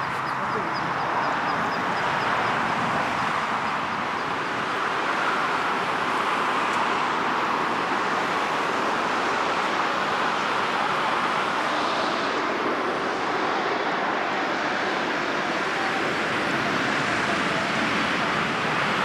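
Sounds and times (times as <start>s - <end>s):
jet airliner engine rushing: 0.0s - 19.0s.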